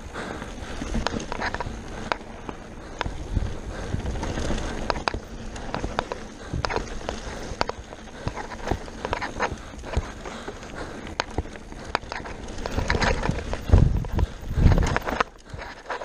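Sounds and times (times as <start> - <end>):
bike rattling clicks and knocks: 0.0 - 16.0
bike tyres rumbling on dirt: 0.0 - 16.0.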